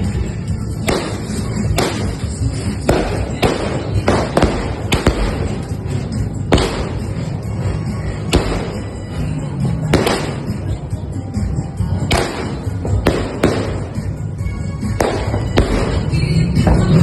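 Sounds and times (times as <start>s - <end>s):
fireworks booming: 0.0s - 11.0s, 12.0s - 17.0s.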